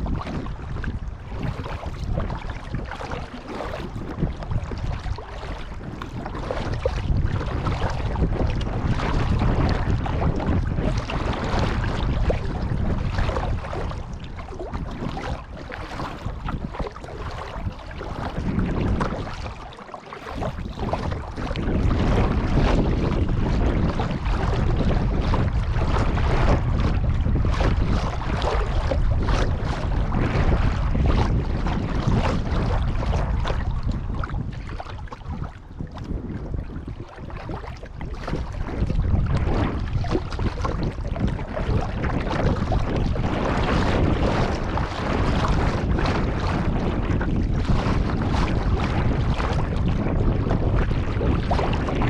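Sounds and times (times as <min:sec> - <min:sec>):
kayak paddling water: 0:00.0 - 0:52.0
wind buffeting microphone: 0:00.0 - 0:52.0.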